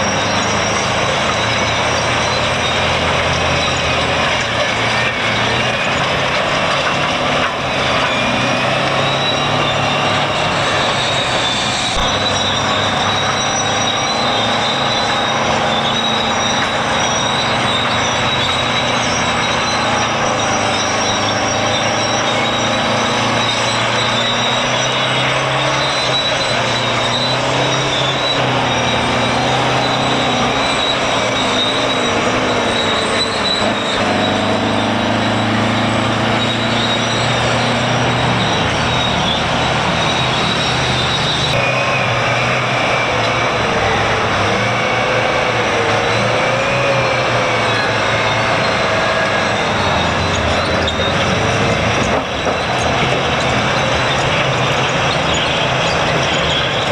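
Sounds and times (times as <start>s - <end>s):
heavy machinery engines running: 0.0s - 56.9s
high metallic squeal: 0.0s - 56.9s.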